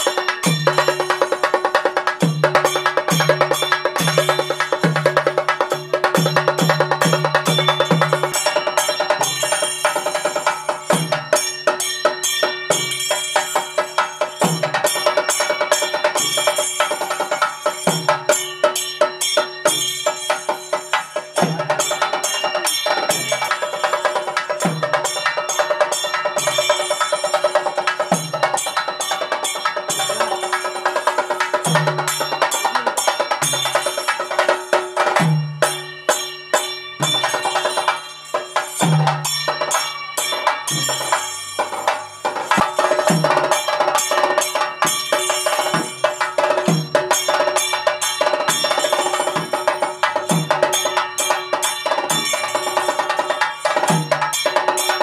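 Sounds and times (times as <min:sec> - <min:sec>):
steady held tone: 0:00.0 - 0:53.1
fast high percussion strokes: 0:00.0 - 0:55.0.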